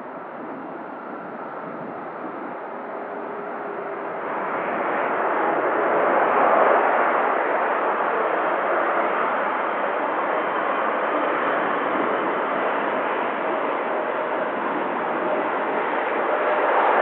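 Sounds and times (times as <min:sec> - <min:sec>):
jet engines roaring: 0:00.1 - 0:17.0.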